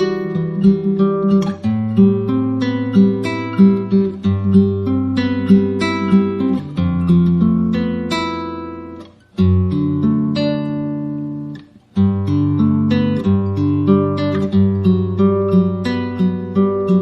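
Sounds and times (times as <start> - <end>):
acoustic guitar playing chords: 0.0 - 17.0.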